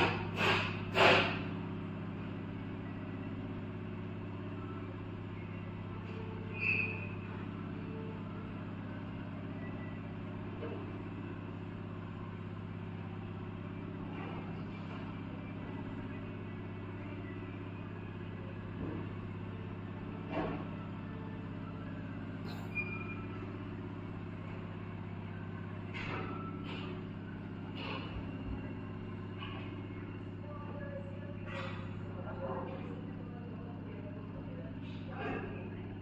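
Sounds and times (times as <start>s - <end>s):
pump electric hum: 0.0s - 36.0s.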